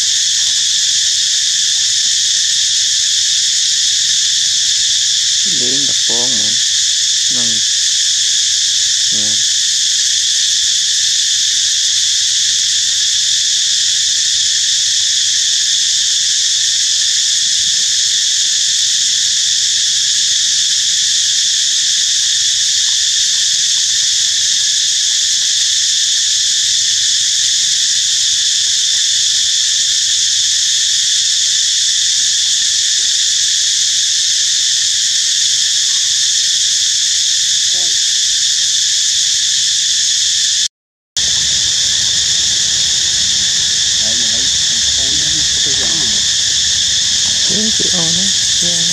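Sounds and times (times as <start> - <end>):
insects chorus drone: 0.0 - 48.9.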